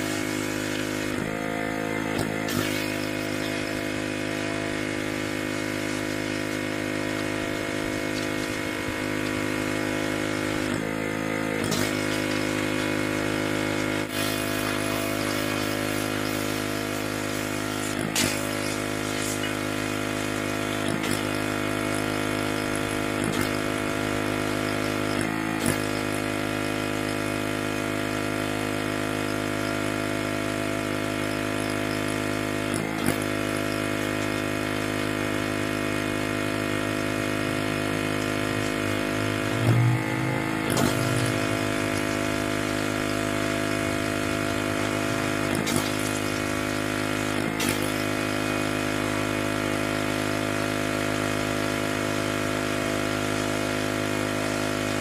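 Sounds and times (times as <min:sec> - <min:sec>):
pressure washer running: 0:00.0 - 0:55.0.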